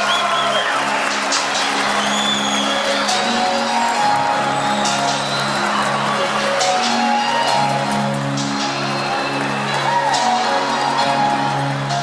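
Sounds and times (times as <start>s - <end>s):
crowd applauding and cheering: 0.0s - 12.0s.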